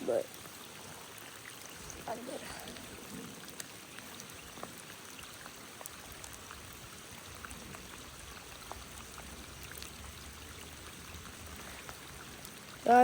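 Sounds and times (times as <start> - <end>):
creek water running: 0.0 - 13.0
raindrops ticking: 0.0 - 13.0.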